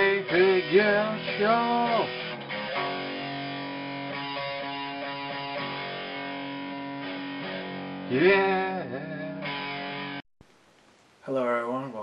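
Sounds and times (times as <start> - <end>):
guitar theme music: 0.0 - 10.2.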